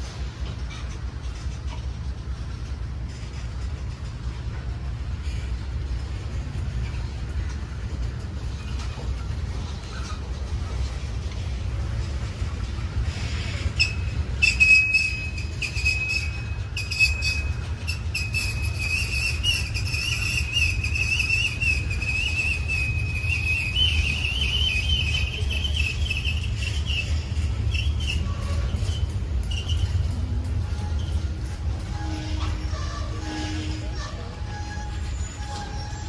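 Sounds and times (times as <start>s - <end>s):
passing train rumble: 0.0s - 36.0s
train wheels squealing on rails: 0.0s - 36.0s.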